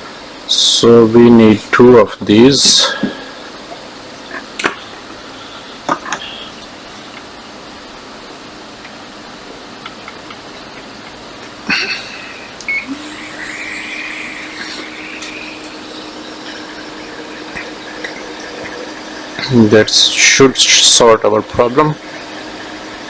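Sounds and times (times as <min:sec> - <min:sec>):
hot air fan blowing: 0:00.0 - 0:23.0.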